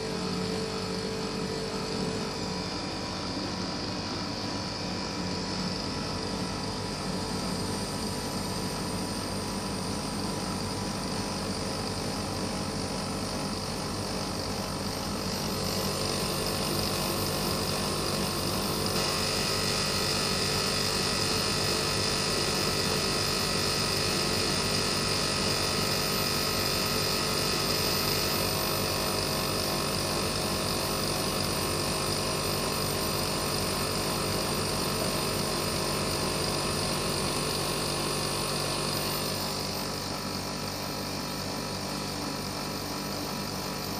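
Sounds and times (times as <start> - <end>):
air conditioner hum and whine: 0.0 - 43.9.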